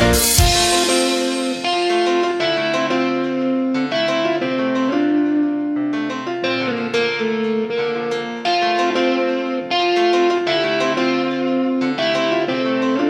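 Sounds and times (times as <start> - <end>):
instrumental keyboard music: 0.0 - 13.0.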